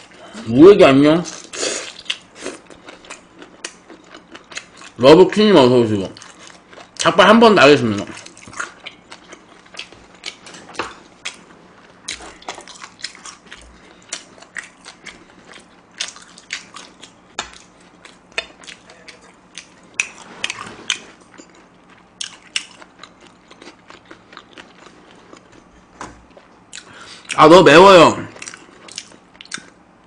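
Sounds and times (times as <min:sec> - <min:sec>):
chewing and sucking mouth sounds: 0:01.3 - 0:05.0, 0:07.9 - 0:27.4, 0:28.3 - 0:29.8.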